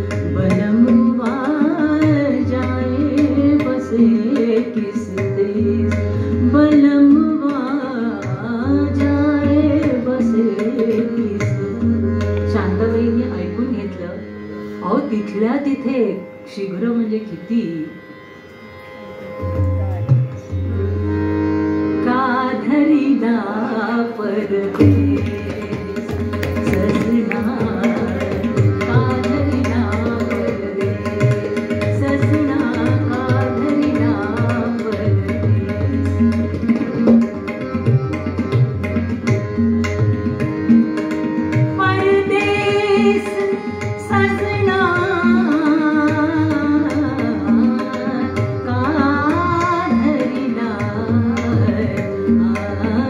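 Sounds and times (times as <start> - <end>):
tabla beat: 0.0 - 15.8, 19.1 - 53.0
woman singing: 0.0 - 18.0, 22.0 - 37.2, 41.6 - 53.0.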